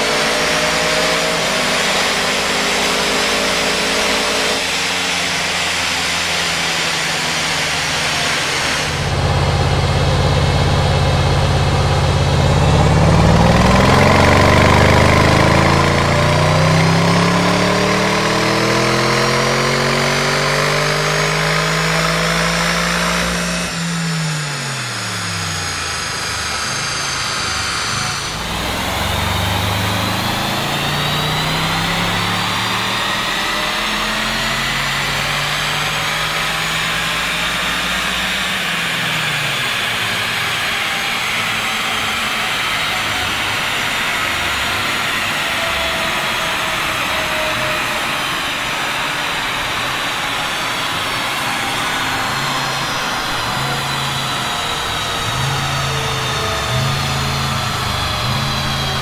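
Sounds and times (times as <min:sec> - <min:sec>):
car engine revving under load: 0:00.0 - 0:59.0
high whine and rush: 0:00.0 - 0:59.0.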